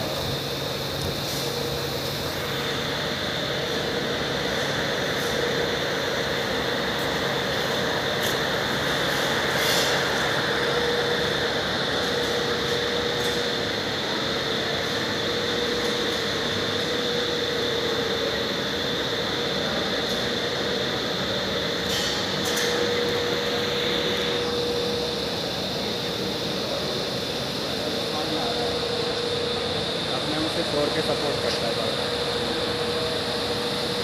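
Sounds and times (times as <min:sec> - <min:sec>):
machine drone with high whine: 0:00.0 - 0:34.0.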